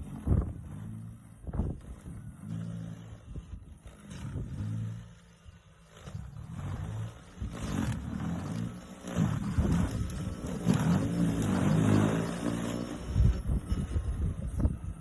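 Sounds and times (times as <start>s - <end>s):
snow blower motor droning: 0.0s - 15.0s.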